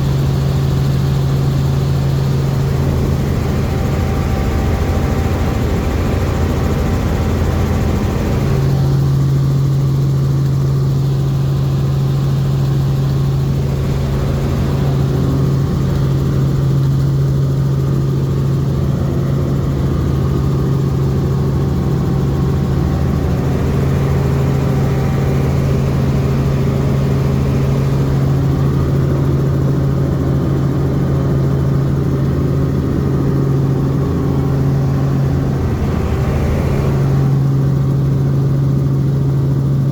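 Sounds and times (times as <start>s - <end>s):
helicopter drone from inside cabin: 0.0s - 39.9s.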